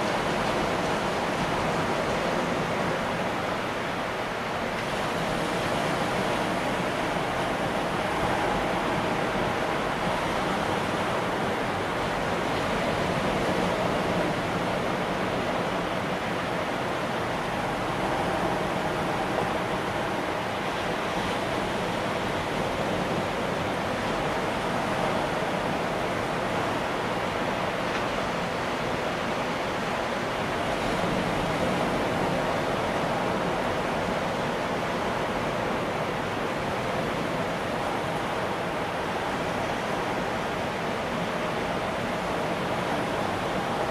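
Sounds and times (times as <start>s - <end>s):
ocean surf breaking: 0.0s - 43.9s.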